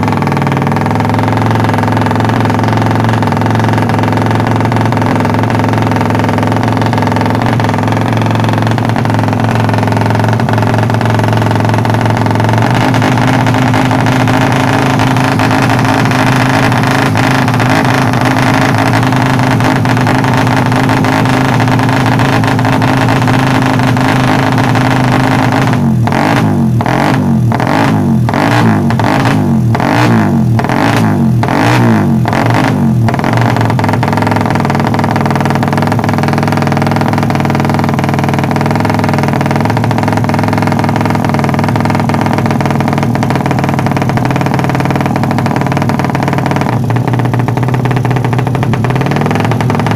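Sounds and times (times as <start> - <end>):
engine throttle blips: 0.0 - 49.9
motorcycle engine idling: 0.0 - 49.9.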